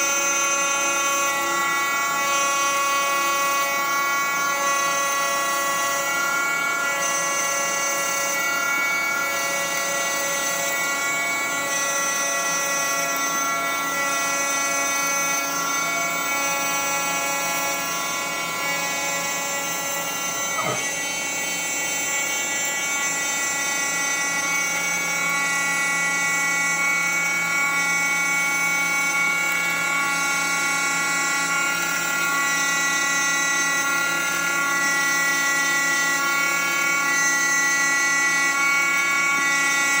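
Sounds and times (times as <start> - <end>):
mill spindle whining: 0.0 - 40.0.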